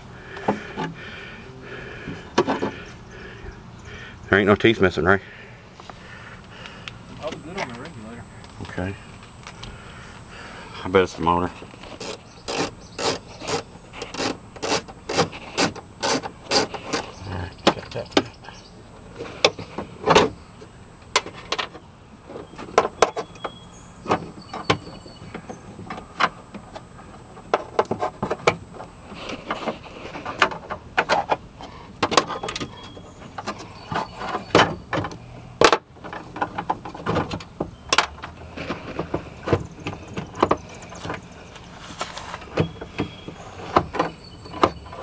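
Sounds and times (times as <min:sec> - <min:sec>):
hand tools and metal clanking: 0:02.1 - 0:03.0, 0:05.8 - 0:20.4, 0:21.0 - 0:45.0.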